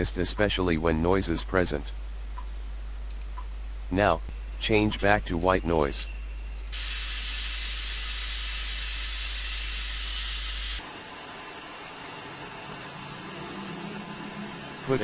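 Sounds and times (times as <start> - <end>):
low hum: 0.0 - 15.0
white noise hiss: 0.0 - 15.0.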